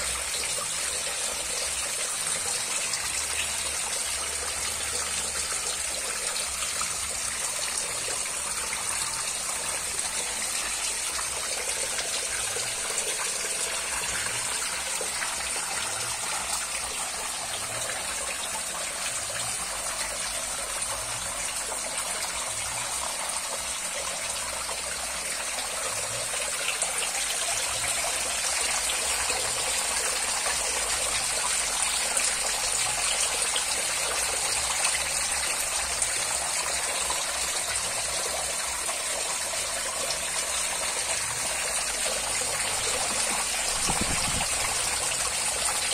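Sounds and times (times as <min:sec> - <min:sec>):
water splashing and trickling: 0:00.0 - 0:45.9.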